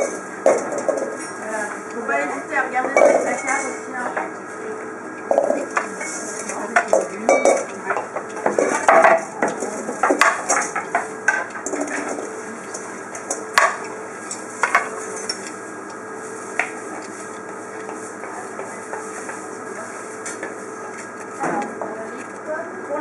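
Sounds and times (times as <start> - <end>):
utensils clinking on metal bowls: 0.0 - 22.4.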